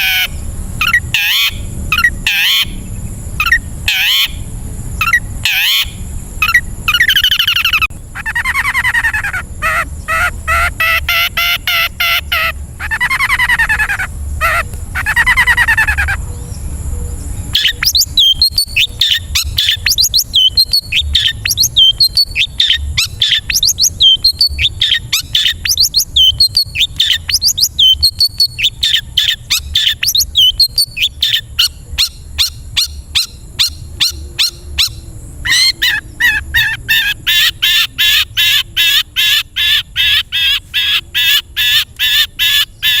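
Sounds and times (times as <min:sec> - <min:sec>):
shrike singing: 0:00.0 - 0:43.0.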